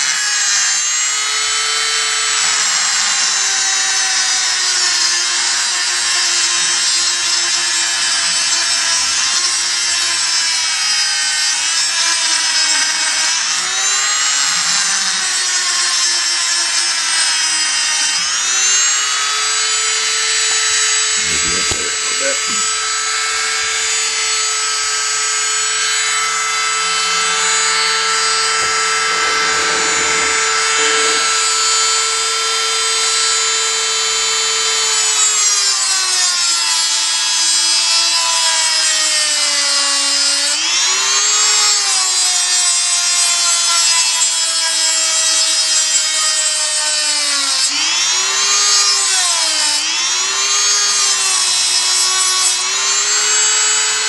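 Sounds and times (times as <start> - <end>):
rotary tool grinding plastic: 0.0 - 54.0.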